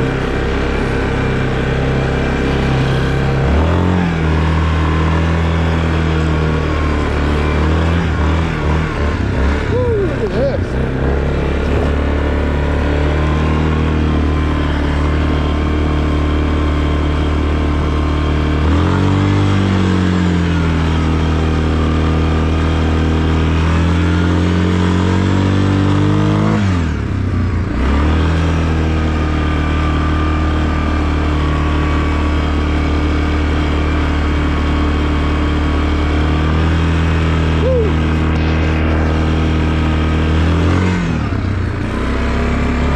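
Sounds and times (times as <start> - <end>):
all-terrain vehicle engine revving: 0.0 - 42.9.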